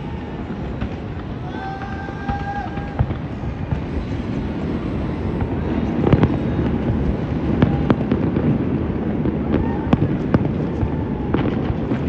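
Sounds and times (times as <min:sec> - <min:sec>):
fireworks bangs: 0:00.0 - 0:12.0
steady background din: 0:00.0 - 0:12.0.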